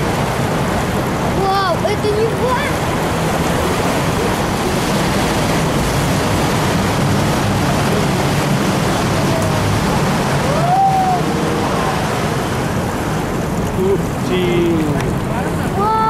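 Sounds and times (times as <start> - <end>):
boat engine running: 0.0 - 16.0
rushing water: 0.0 - 16.0.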